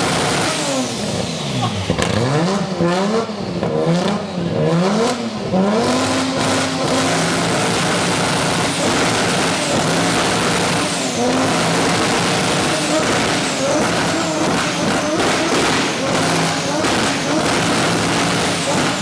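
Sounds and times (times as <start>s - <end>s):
engine revving with loud exhaust: 0.0s - 19.0s.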